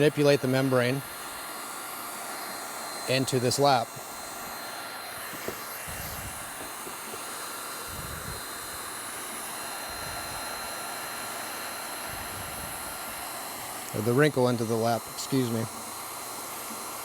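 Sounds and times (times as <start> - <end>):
faint high whine: 0.0 - 17.0
heat gun blowing hiss: 0.0 - 17.0.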